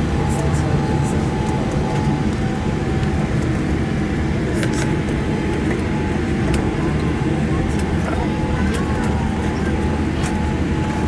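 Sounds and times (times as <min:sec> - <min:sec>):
landing gear and engine rumble: 0:00.0 - 0:11.0.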